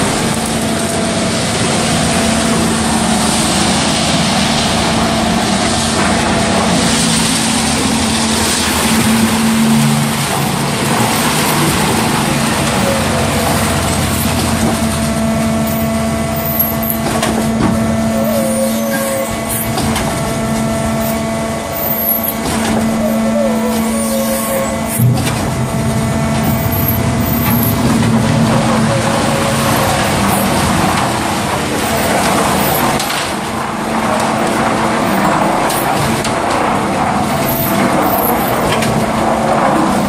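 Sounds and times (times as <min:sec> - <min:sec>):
concrete mixer pump humming: 0:00.0 - 0:40.0.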